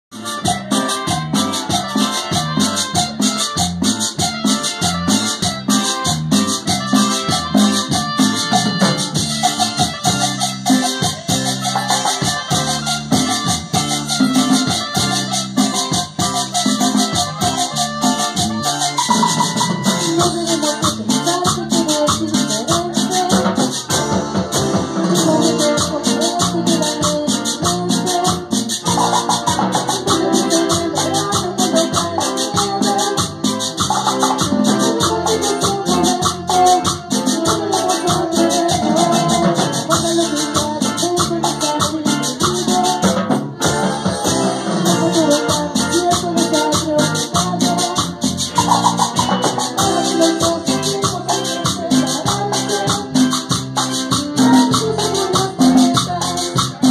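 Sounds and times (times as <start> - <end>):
electric bass: 0.1 - 56.9
keyboard: 0.1 - 56.9.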